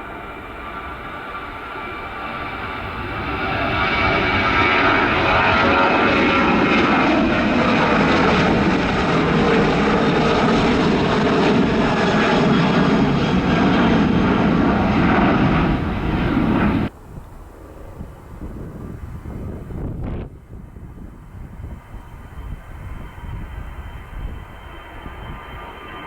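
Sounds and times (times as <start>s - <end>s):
airliner engines passing: 0.0s - 26.0s.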